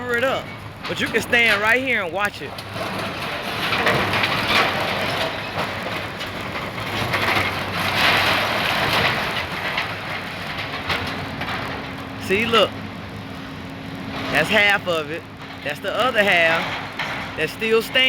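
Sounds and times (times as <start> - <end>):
debris crunching and clattering: 0.0 - 18.0.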